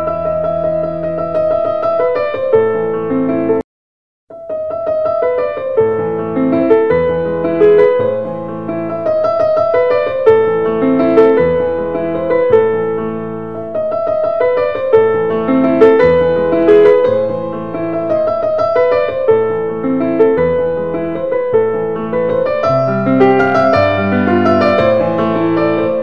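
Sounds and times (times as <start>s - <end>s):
gentle piano piece: 0.0s - 3.6s, 4.3s - 26.0s.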